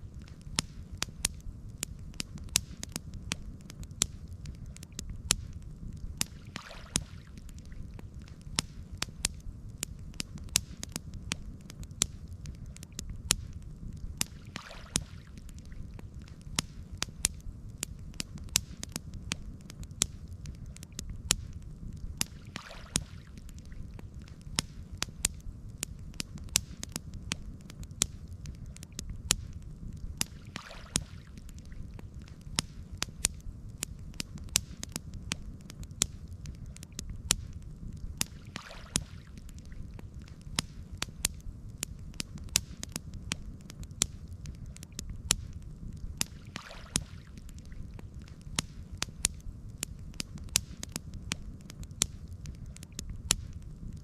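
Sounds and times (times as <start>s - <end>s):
fire low rumble: 0.0s - 22.4s, 23.0s - 30.4s, 31.0s - 38.4s, 39.0s - 46.4s, 47.0s - 54.0s
campfire crackling and popping: 0.0s - 54.0s
soft whoosh of fire: 0.0s - 54.0s.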